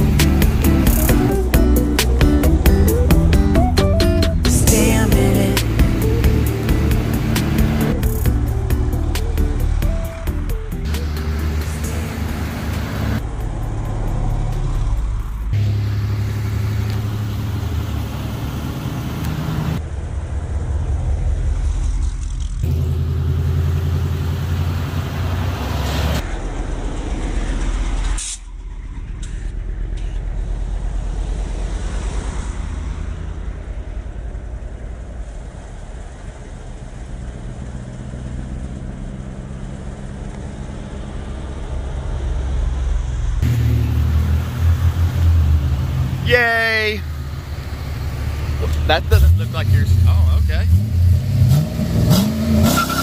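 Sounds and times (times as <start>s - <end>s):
pickup trucks driving past: 0.0s - 53.0s.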